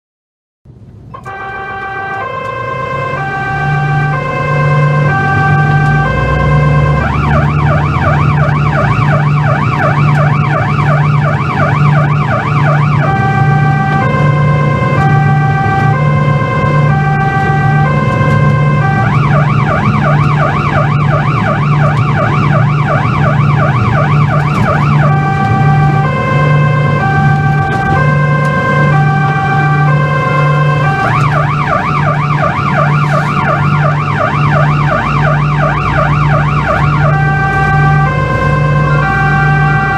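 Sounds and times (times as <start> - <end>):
electronic siren: 1.2 - 39.9.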